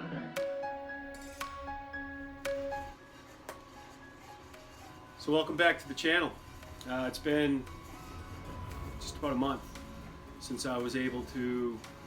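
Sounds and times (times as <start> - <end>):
gentle plucked instrumental music: 0.0 - 12.0.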